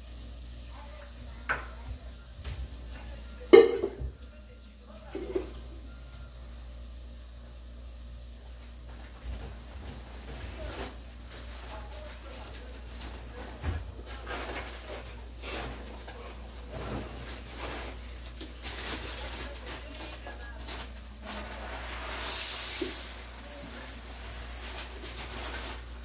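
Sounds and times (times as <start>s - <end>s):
rice sizzling in hot oil: 0.0s - 26.0s.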